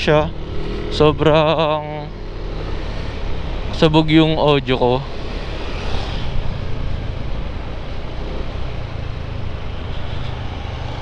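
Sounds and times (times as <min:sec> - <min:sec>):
distorted wind noise on microphone: 0:00.0 - 0:11.0
low rumble: 0:00.0 - 0:11.0.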